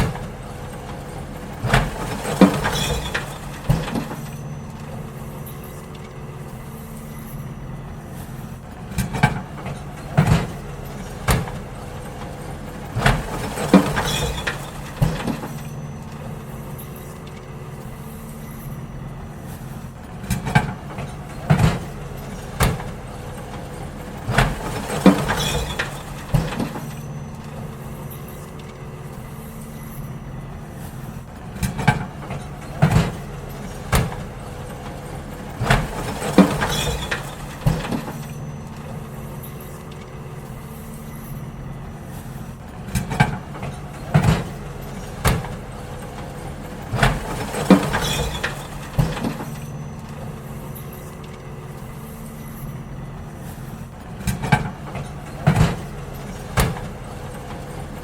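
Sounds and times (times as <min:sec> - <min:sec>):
bins clanking and banging: 0:00.0 - 0:58.0
garbage truck engine humming: 0:00.0 - 0:58.0.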